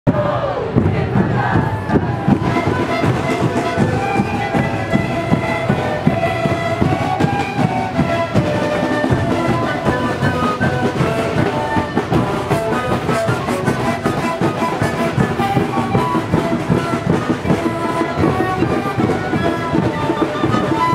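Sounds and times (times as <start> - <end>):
panpipes playing melody: 1.9 - 20.9.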